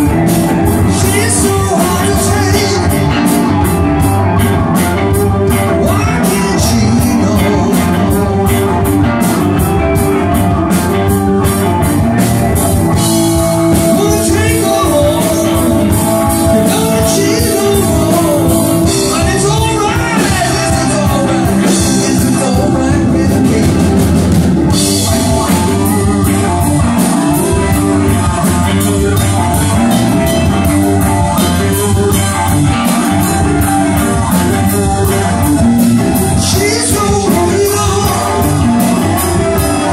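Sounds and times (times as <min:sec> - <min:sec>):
bass guitar: 0:00.0 - 0:39.9
drum kit beat: 0:00.0 - 0:39.9
electric guitars: 0:00.0 - 0:39.9.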